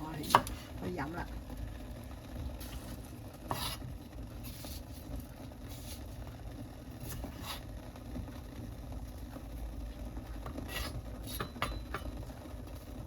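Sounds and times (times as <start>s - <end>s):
water heating on stove rumble: 0.0s - 13.0s.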